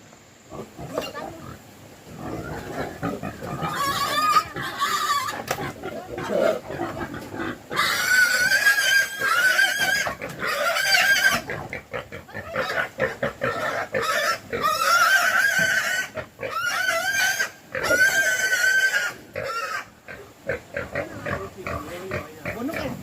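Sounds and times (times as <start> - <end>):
pig grunting: 0.5 - 23.0
pig squealing: 0.5 - 23.0.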